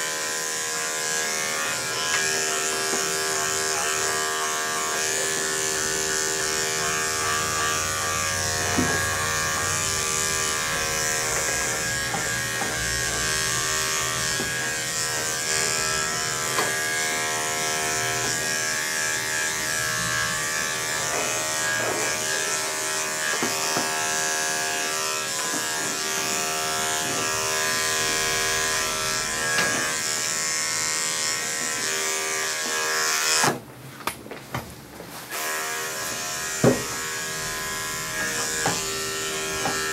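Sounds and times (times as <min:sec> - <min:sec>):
electric clippers buzzing: 0:00.0 - 0:33.6, 0:35.3 - 0:39.9.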